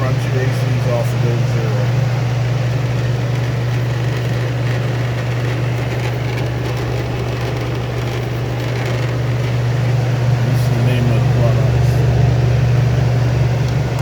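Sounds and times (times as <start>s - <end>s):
air conditioners humming: 0.0s - 14.0s
fan noise rushing: 0.0s - 14.0s.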